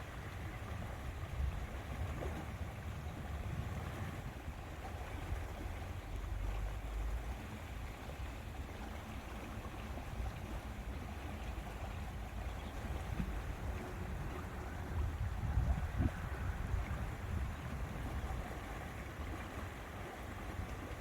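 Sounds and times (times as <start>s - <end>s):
water noise: 0.0s - 21.0s
wind rumbling on microphone: 0.0s - 21.0s.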